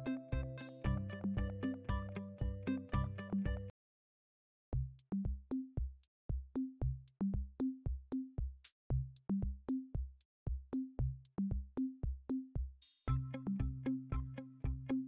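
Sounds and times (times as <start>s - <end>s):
drum machine beat: 0.0s - 3.7s, 4.8s - 14.9s.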